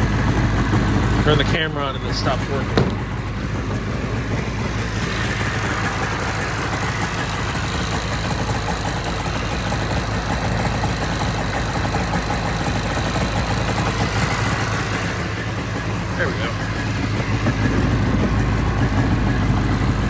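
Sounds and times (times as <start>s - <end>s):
snowmobile engine idling: 0.0s - 20.0s.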